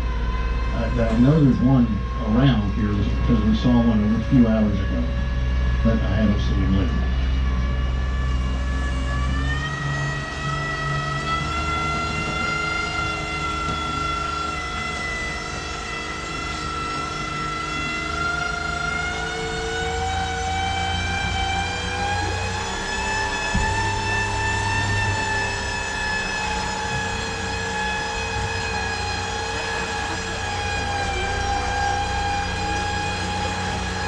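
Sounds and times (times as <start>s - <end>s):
boat motor whine: 0.0s - 34.0s
low hum: 0.0s - 34.0s.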